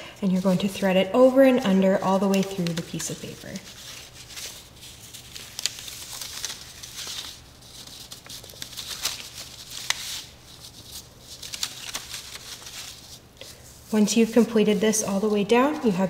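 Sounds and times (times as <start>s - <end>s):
paper rustling and crinkling: 0.2s - 16.0s.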